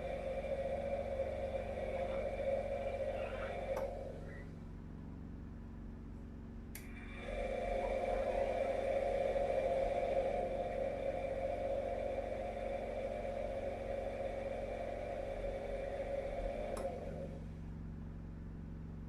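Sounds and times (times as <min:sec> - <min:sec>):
generator humming: 0:00.0 - 0:19.0.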